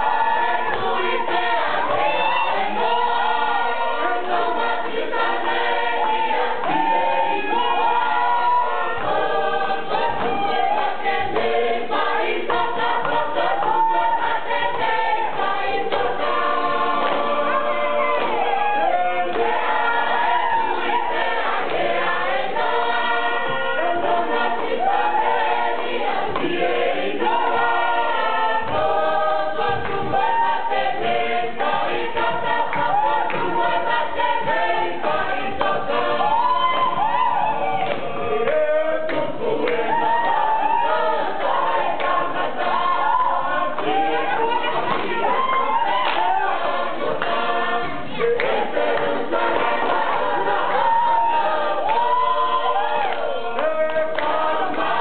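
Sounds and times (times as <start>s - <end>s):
group singing in chorus: 0.0s - 55.0s.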